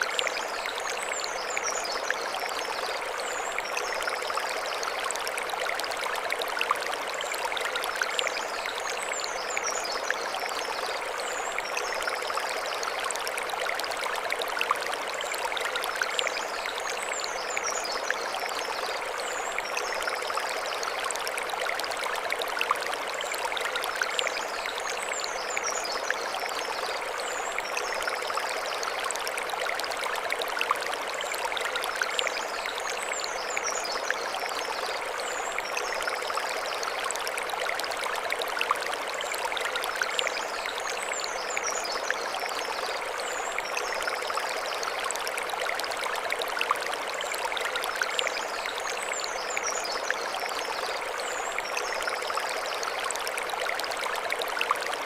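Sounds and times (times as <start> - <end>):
stream flowing over stones: 0.0 - 55.0.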